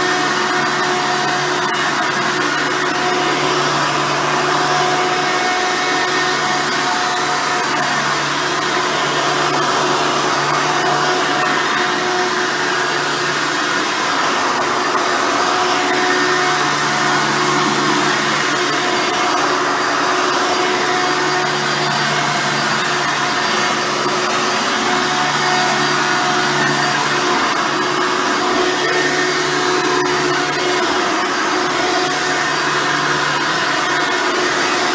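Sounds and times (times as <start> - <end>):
vacuum cleaner whine: 0.0 - 34.9.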